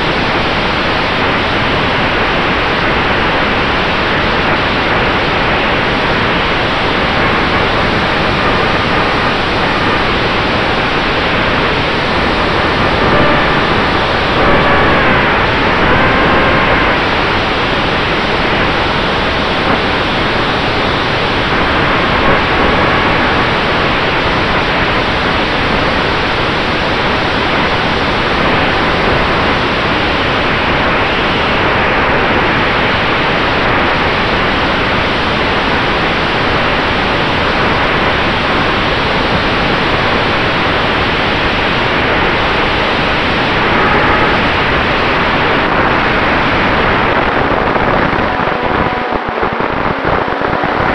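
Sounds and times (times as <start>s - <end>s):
loud wind rush: 0.0s - 50.9s.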